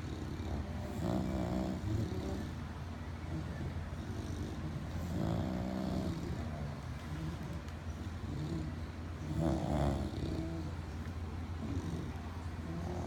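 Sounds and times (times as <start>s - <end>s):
dogs snoring: 0.0s - 13.0s.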